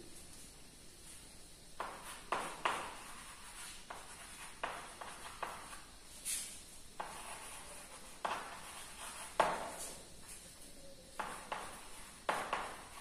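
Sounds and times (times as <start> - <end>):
chalk tapping on blackboard: 1.8 - 10.4, 11.2 - 13.0
chalk scraping on blackboard: 1.8 - 10.6, 11.2 - 13.0.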